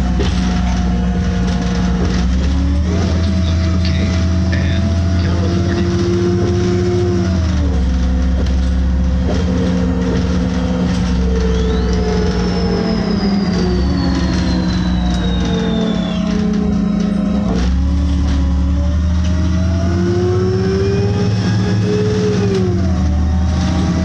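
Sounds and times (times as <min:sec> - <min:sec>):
bus engine humming: 0:00.0 - 0:24.0
high whine: 0:00.0 - 0:24.0.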